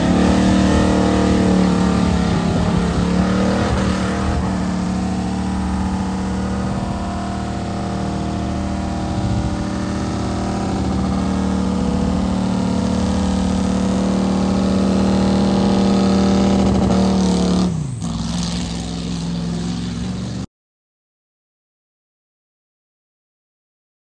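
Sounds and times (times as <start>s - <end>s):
truck engine revving: 0.0s - 20.5s.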